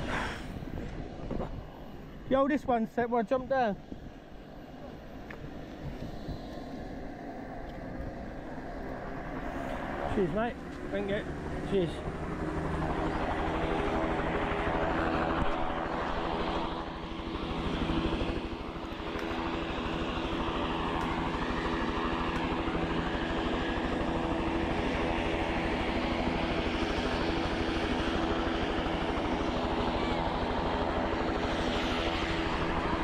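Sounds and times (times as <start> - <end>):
engine drone: 0.0 - 2.5, 3.8 - 33.0.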